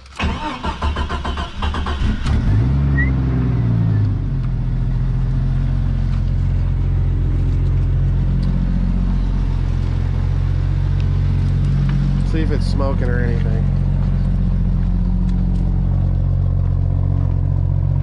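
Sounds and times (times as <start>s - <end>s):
car engine revving and idling: 0.2s - 18.0s.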